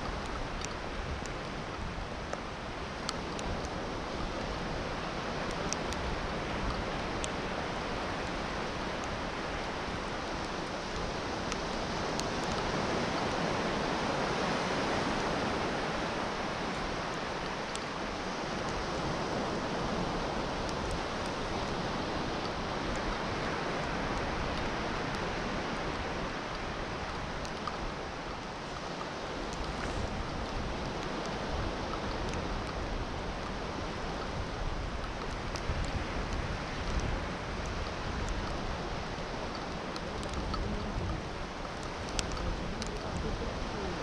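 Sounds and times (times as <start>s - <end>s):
sea surf washing onto beach: 0.0s - 44.0s.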